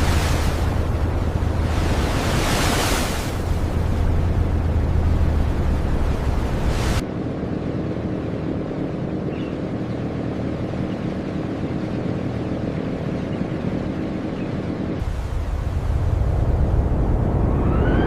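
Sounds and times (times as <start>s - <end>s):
ship engines droning: 0.0s - 18.0s
wind and surf noise: 0.0s - 18.0s.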